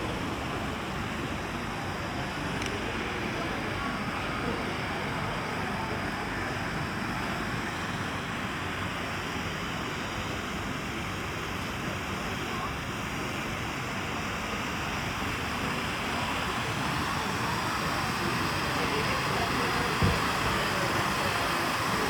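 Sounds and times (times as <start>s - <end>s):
city street background noise: 0.0s - 22.0s
faint indistinct voices: 0.0s - 22.0s.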